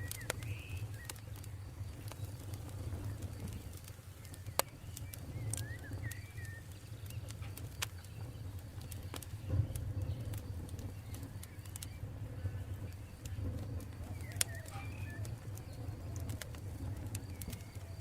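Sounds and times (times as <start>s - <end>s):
birds chirping: 0.0s - 18.0s
campfire crackling and popping: 0.0s - 18.0s.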